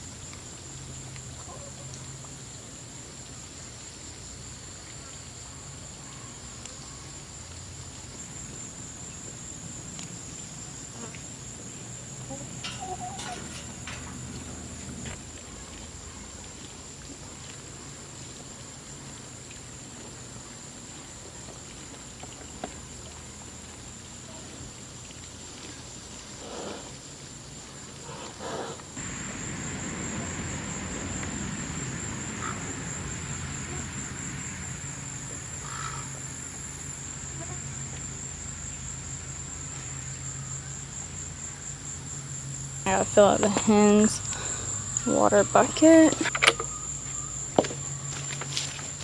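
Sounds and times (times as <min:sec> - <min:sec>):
insect chorus buzzing: 0:00.0 - 0:49.0.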